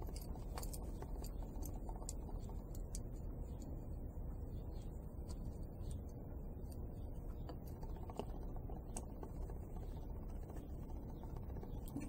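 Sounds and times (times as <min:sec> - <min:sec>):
hand tools clicking and tapping: 0:00.0 - 0:03.8, 0:05.2 - 0:12.0
steady low hum: 0:00.0 - 0:12.0.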